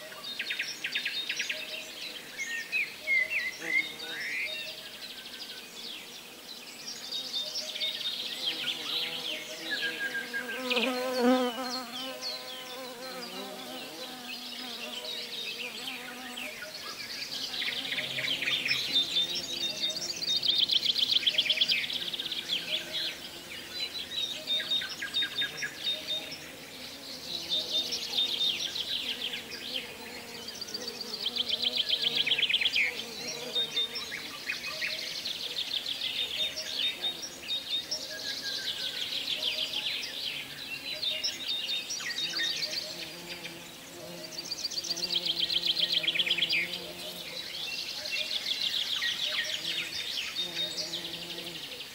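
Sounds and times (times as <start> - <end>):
songbirds trilling: 6.8 - 51.9.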